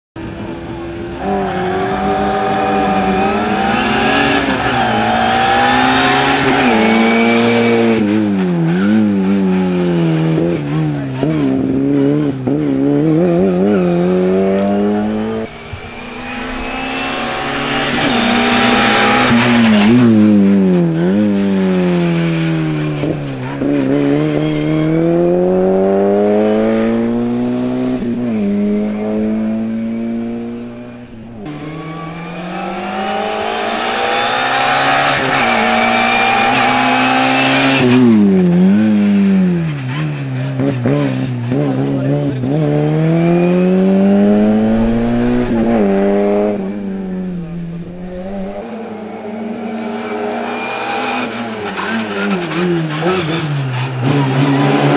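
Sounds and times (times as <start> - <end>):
race car engine revving: 0.2 - 54.9.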